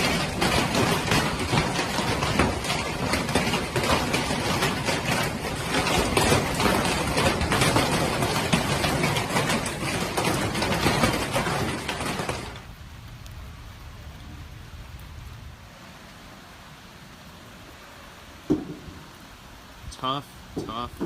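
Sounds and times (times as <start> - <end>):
hail clattering on hard surfaces: 0.0 - 15.3, 18.4 - 21.0.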